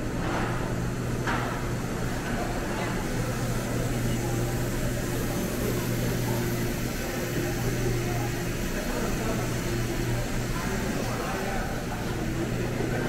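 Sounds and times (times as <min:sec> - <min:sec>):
low machinery hum: 0:00.0 - 0:13.0
crowd noise: 0:01.6 - 0:13.0.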